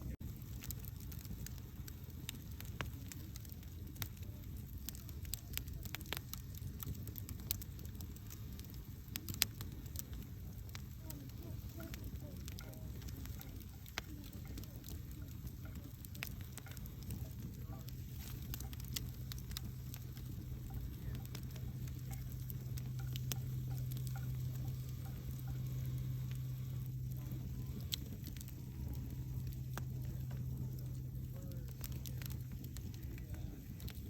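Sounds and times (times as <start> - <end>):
low rumble of flames: 0.0 - 34.0
wood crackling and popping: 0.0 - 34.0.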